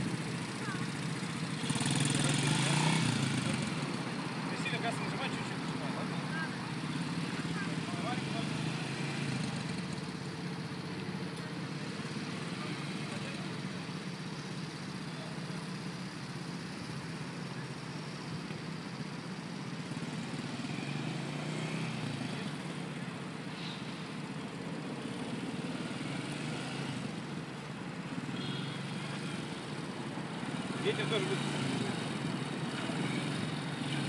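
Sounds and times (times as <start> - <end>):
quad bike engine idling: 0.0 - 34.0.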